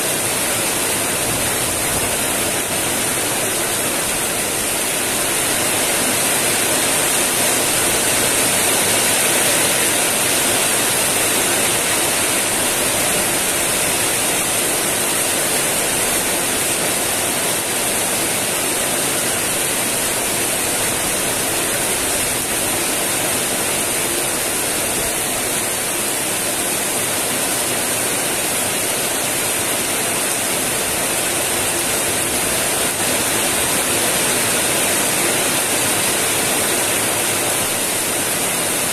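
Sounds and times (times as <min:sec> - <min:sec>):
heavy rain on roofs and leaves: 0:00.0 - 0:38.9.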